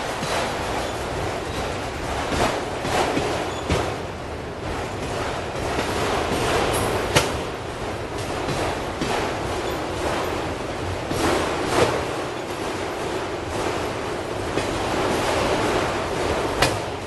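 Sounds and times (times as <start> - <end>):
train wheels rushing on rail: 0.0 - 17.0.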